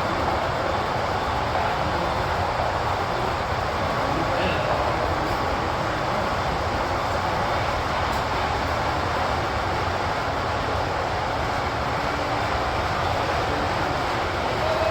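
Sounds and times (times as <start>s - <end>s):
model train running on track: 0.0s - 14.9s.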